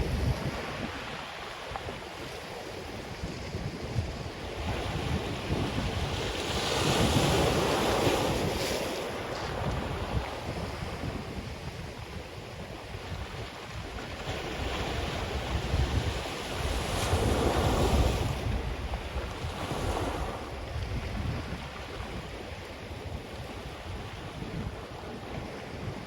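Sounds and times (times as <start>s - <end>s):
ocean waves breaking on beach: 0.0s - 26.0s
wind buffeting microphone: 0.0s - 26.0s.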